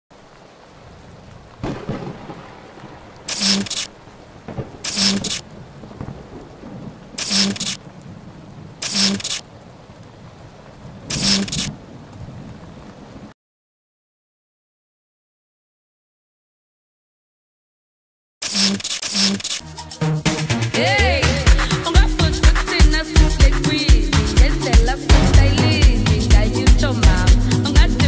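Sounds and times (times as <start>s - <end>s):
steady rain-like hiss: 0.1s - 13.4s, 18.6s - 28.0s.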